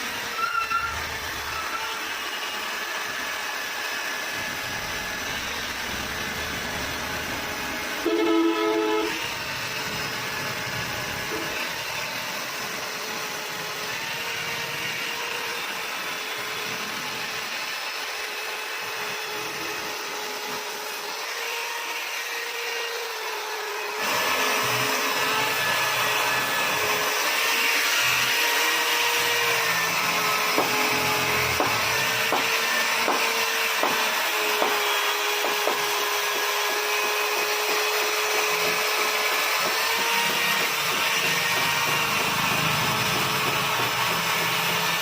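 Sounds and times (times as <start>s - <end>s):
small power tool humming: 0.0s - 45.0s.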